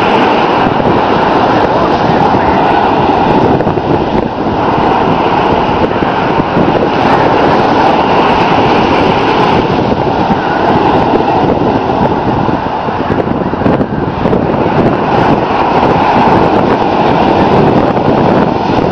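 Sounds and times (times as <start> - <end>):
ocean surf breaking: 0.0 - 18.9
wind buffeting microphone: 0.0 - 18.9.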